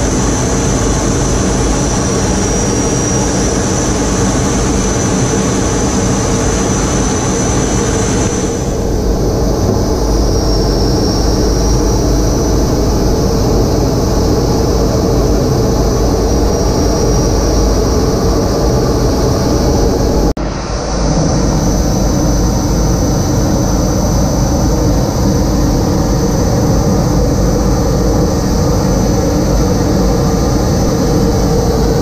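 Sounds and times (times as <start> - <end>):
jet engine roar with high whine: 0.0 - 32.0.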